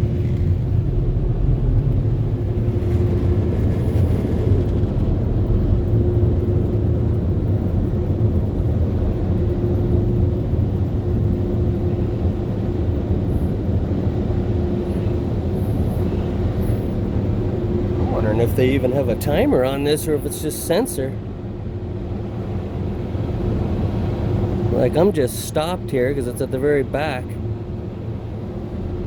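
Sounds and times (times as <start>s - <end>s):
car wash dryer blowers: 0.0s - 29.0s.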